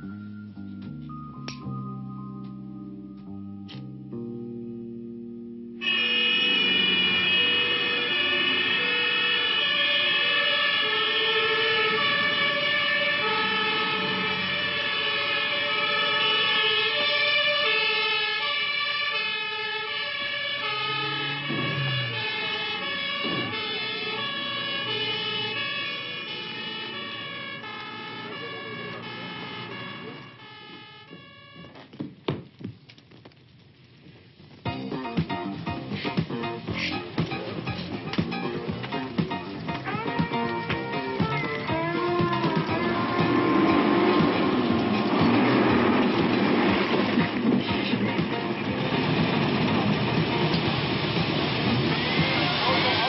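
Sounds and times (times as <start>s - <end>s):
fire engine two-tone sirens: 0.0s - 4.0s, 5.6s - 31.9s, 35.0s - 53.0s.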